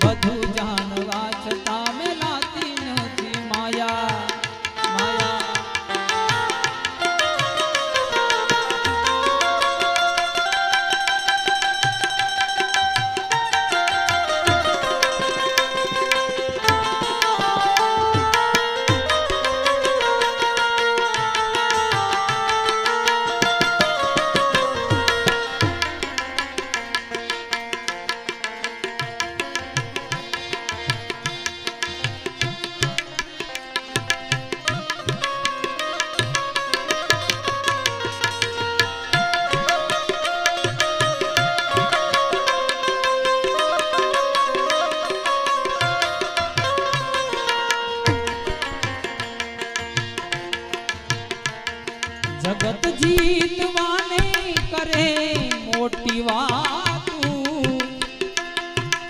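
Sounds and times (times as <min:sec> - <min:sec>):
hand drum rhythm: 0:00.0 - 0:59.0.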